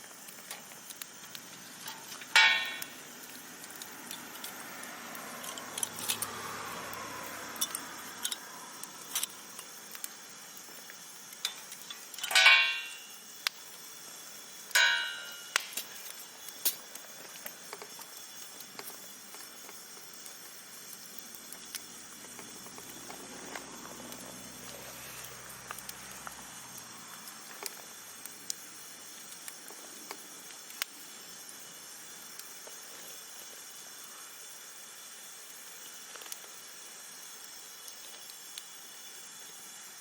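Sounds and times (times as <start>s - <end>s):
fire popping and snapping: 0.0s - 39.4s
campfire crackling: 0.0s - 40.0s.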